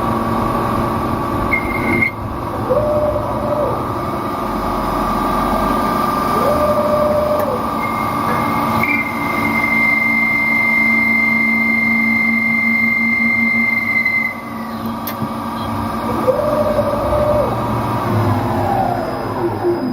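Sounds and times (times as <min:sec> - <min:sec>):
lathe motor whine: 0:00.0 - 0:19.9
ramping machine tones: 0:00.0 - 0:19.9.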